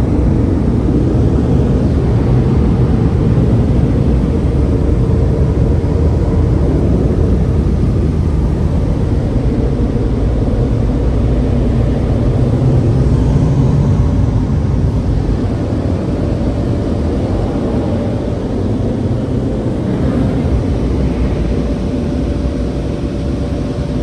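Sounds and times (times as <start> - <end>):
car wash dryer blowers: 0.0 - 24.0.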